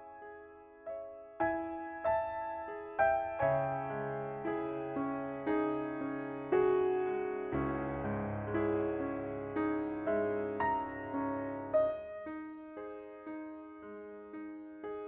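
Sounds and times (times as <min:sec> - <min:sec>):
slow piano playing: 0:00.0 - 0:15.0.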